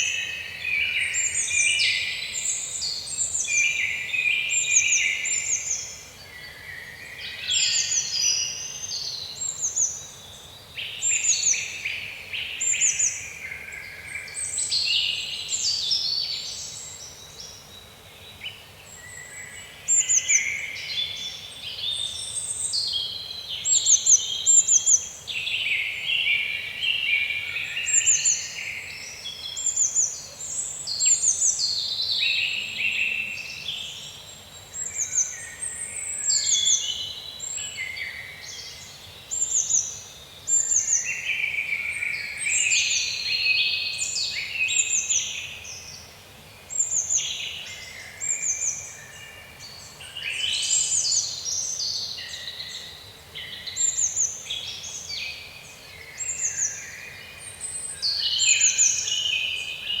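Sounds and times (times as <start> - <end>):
faint background hiss: 0.0 - 60.0
songbirds chirping and warbling: 0.0 - 60.0.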